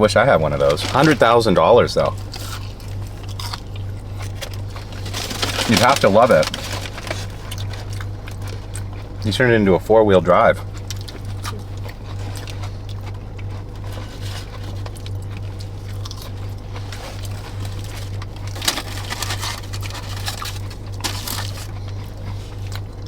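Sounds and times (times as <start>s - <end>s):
low hum: 0.0s - 23.0s
food packaging rustling: 0.4s - 9.1s, 10.8s - 23.0s
person chewing: 0.4s - 9.3s, 10.6s - 23.0s.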